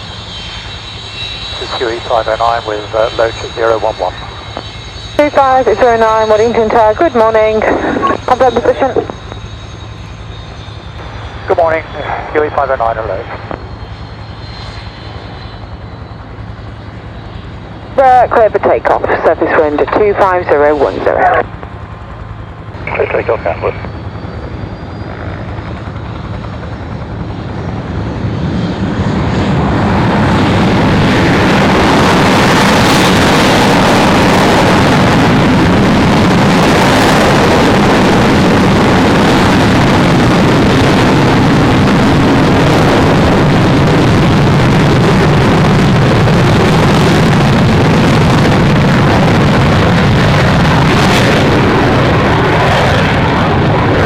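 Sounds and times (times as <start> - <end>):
aircraft engines roaring: 0.0 - 54.0.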